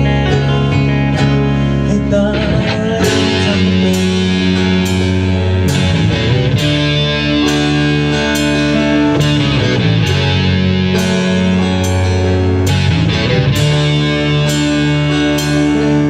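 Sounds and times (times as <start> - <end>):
electric guitars sustained chords: 0.0 - 16.0.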